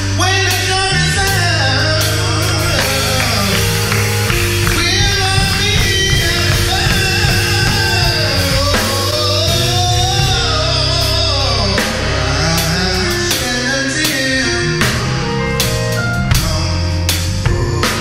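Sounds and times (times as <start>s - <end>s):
band accompaniment: 0.0s - 18.0s
held bass notes: 0.0s - 18.0s
gospel choir singing: 1.0s - 18.0s.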